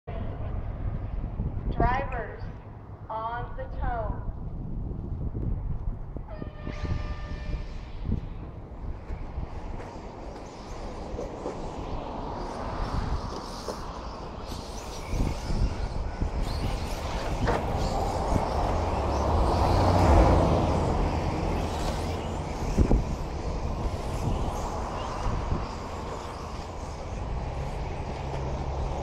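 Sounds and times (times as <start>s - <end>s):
rc trucks rushing and rumbling: 4.6s - 29.0s.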